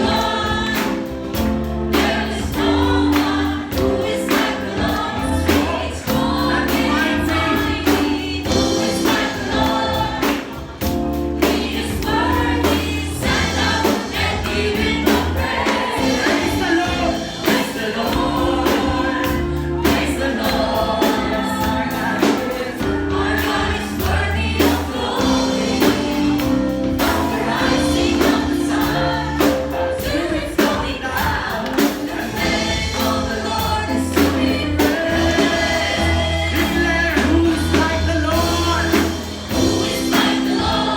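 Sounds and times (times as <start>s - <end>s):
band with bass and drums: 0.0s - 40.9s
group singing worship song: 0.0s - 40.9s.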